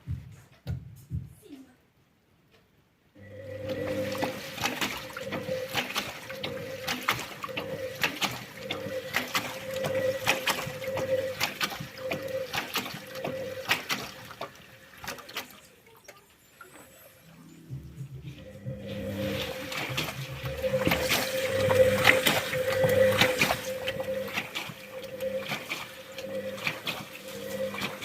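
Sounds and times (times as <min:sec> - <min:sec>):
washing machine motor hum: 0:03.2 - 0:28.0
water sloshing in washing machine: 0:03.2 - 0:28.0.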